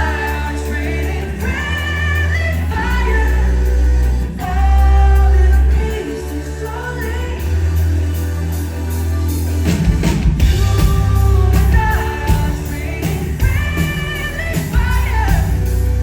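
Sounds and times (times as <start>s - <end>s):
person singing: 0.0s - 7.9s, 10.4s - 16.0s
heavy sustained bass: 0.0s - 16.0s.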